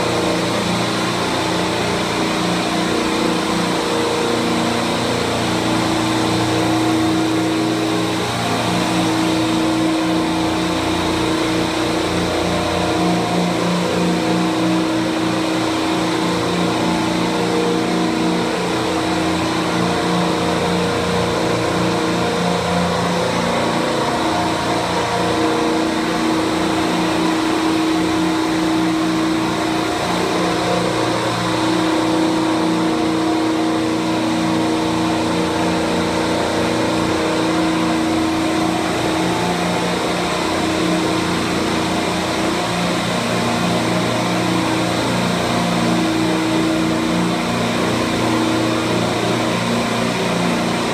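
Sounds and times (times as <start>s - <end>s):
refrigeration compressors humming: 0.0s - 50.9s.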